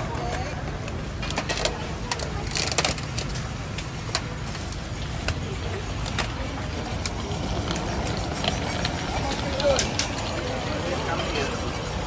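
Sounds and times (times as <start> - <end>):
low rumble of traffic: 0.0 - 12.0
sharp clicks and clatters: 0.1 - 10.5.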